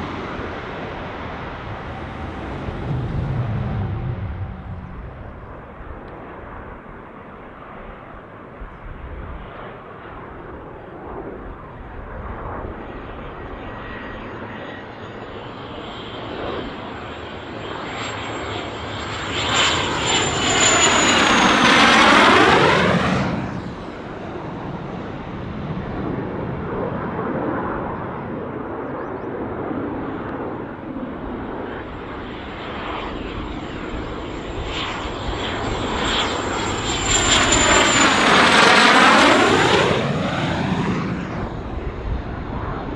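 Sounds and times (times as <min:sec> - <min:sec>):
jet aircraft flying overhead: 0:00.0 - 0:42.9
jet engine whine: 0:00.0 - 0:42.9.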